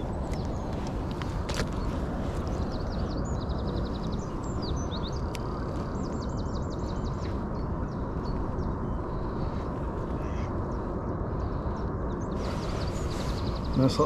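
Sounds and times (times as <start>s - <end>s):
low outdoor rumble: 0.0s - 14.0s
small birds chirping and trilling: 0.0s - 14.0s.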